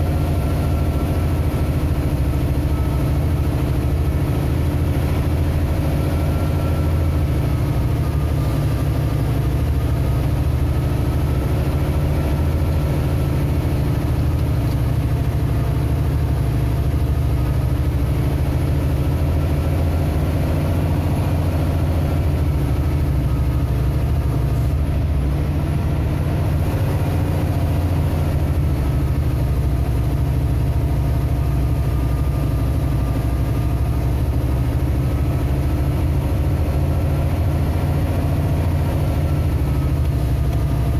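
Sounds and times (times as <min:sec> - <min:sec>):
vehicle engine drone: 0:00.0 - 0:40.9.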